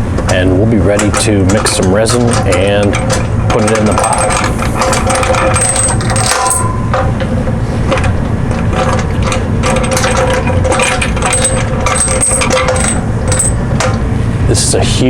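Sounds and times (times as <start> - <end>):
metal lid clamps clinking: 0.3 - 14.0.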